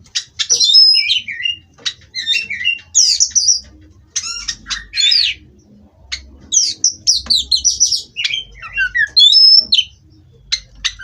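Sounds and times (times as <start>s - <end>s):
songbird singing chirps and whistles: 0.2s - 11.0s.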